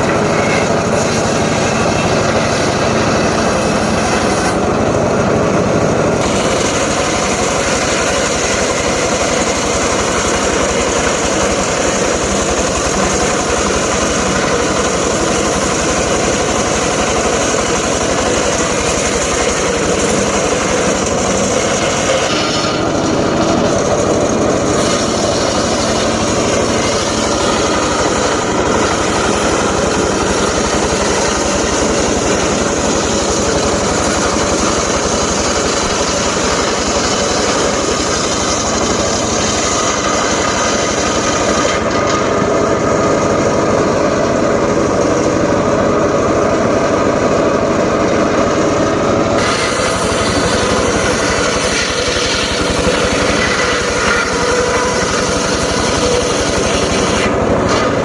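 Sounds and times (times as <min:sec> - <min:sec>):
engine-driven circular saw running: 0:00.0 - 0:58.0.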